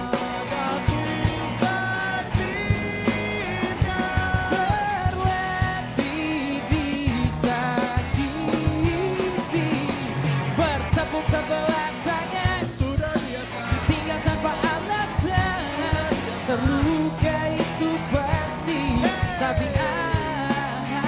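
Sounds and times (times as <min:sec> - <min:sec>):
acoustic guitar: 0:00.0 - 0:21.0
bass guitar: 0:00.0 - 0:21.0
electric guitar: 0:00.0 - 0:21.0
man singing lead vocal: 0:00.0 - 0:21.0
steady drum beat: 0:00.0 - 0:21.0.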